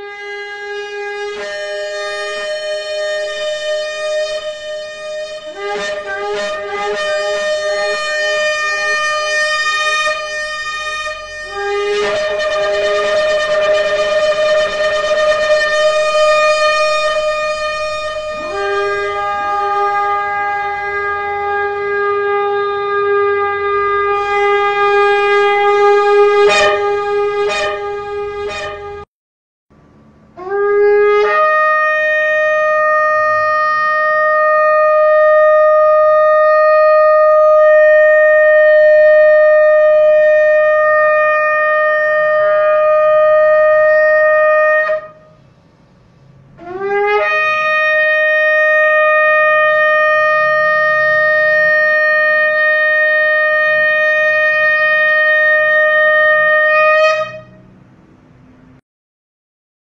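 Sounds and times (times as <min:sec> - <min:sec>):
shofar blasts: 0:00.0 - 0:29.1, 0:30.4 - 0:45.4, 0:46.6 - 0:57.7.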